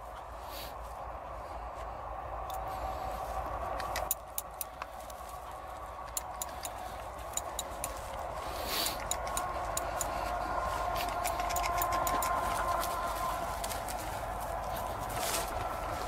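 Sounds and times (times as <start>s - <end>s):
rustle: 0.0s - 2.0s, 2.6s - 16.0s
footsteps crunching in dry grass: 0.0s - 3.9s, 4.7s - 16.0s
faint steady hum: 0.0s - 16.0s.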